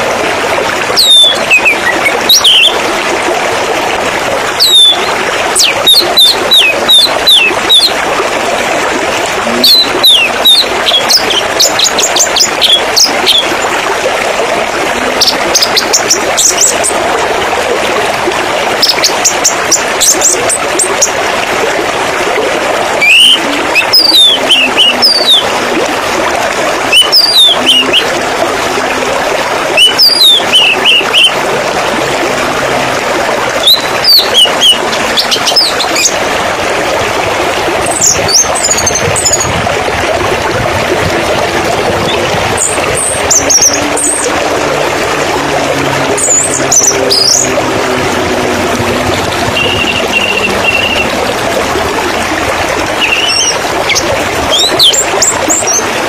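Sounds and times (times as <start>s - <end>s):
flowing splashing water: 0.0s - 56.0s.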